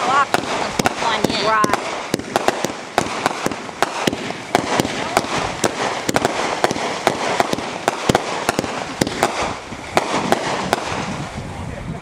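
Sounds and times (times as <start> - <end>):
firework bangs: 0.0 - 11.4
firework crackle: 0.0 - 11.6.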